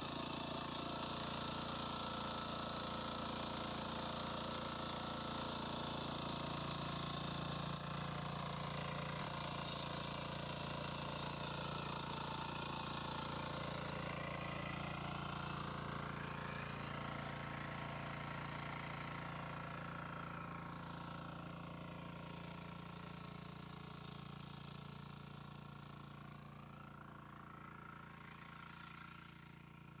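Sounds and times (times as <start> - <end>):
power weeder engine running: 0.0 - 30.0.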